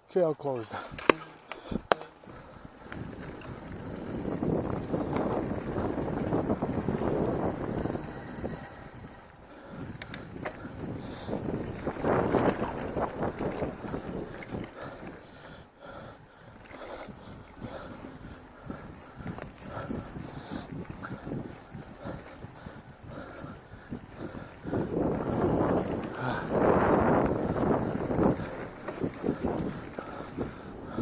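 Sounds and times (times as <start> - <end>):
bike tyres crunching on dirt: 0.5 - 31.0
bike chain and frame rattle: 0.9 - 31.0.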